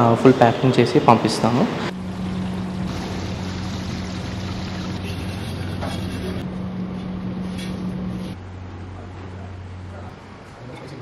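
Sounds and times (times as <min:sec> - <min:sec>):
low mechanical hum: 0:01.5 - 0:11.0.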